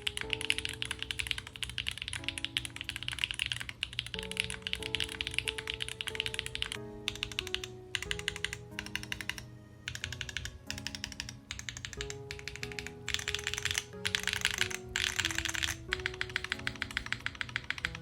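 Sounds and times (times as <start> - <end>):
fast typing on mechanical keyboard: 0.0 - 18.0
soft background music: 0.0 - 18.0.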